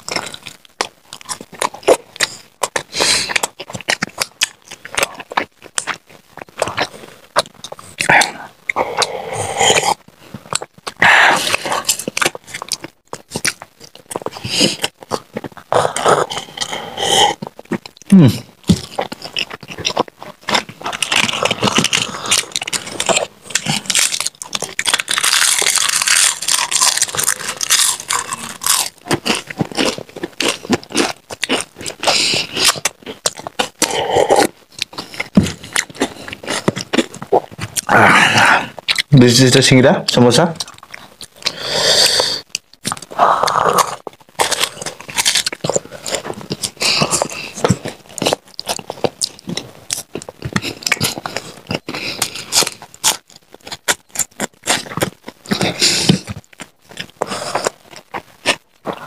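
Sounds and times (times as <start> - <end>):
crunching and chewing snacks: 0.0 - 59.0.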